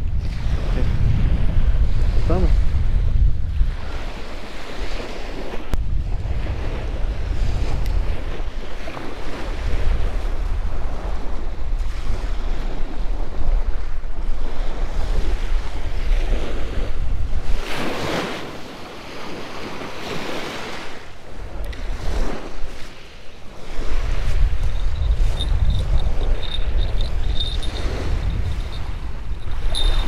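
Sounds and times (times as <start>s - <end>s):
wind buffeting microphone: 0.0s - 30.0s
small waves washing up beach: 3.6s - 30.0s.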